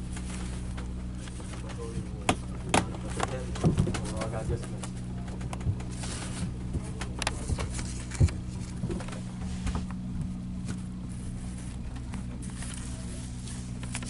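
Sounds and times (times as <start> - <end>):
low machinery hum: 0.0 - 14.0
paper and bedding rustling: 0.0 - 14.0.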